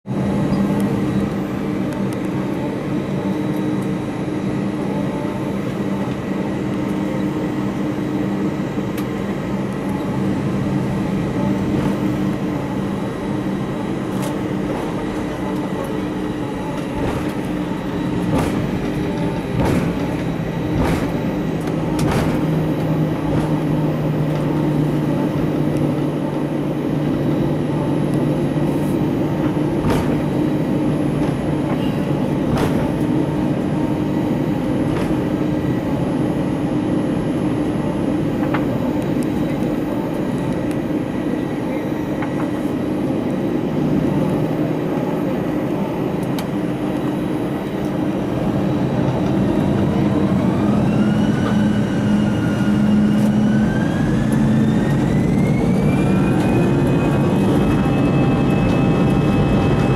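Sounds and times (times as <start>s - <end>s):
aircraft engine hum in cabin: 0.0s - 59.9s.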